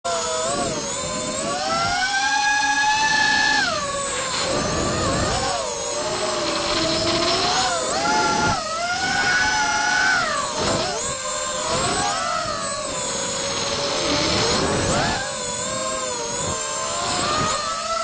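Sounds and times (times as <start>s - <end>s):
drone motors whining: 0.1s - 18.0s.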